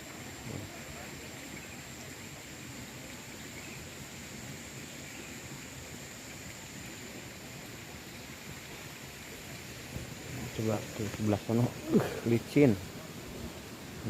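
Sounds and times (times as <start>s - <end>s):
water rushing in a ditch: 0.0s - 14.0s.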